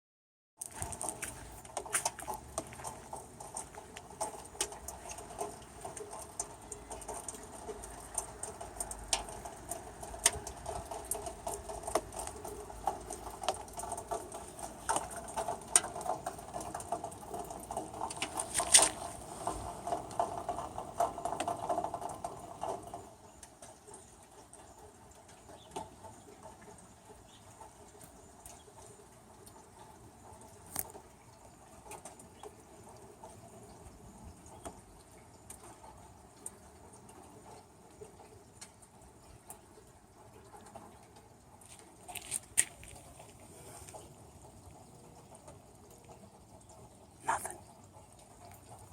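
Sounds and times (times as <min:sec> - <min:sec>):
rainwater pattering and dripping: 0:00.6 - 0:48.9
water trickling: 0:00.6 - 0:48.9.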